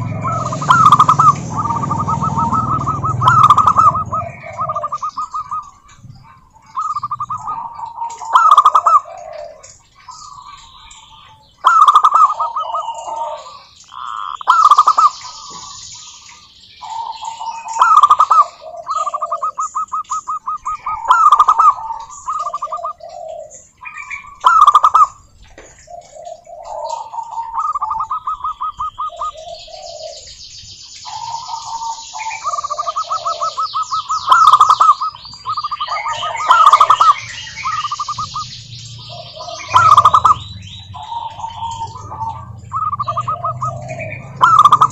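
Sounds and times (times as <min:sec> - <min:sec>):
doves cooing: 0:00.0 - 0:44.9
high chirping: 0:00.0 - 0:44.9.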